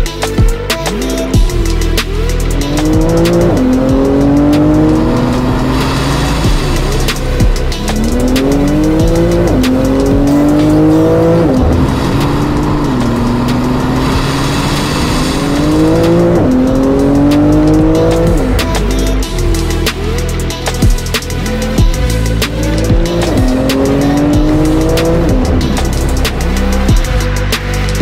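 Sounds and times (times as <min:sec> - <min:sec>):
car engine accelerating with upshifts: 0:00.5 - 0:28.0.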